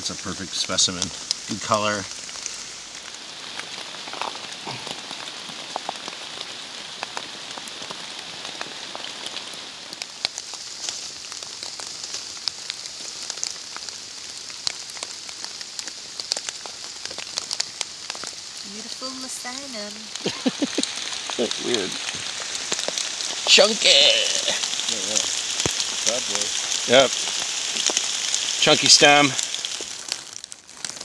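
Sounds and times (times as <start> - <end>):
light rain on leaf litter: 0.0 - 31.0
rain drops ticking: 0.0 - 31.0.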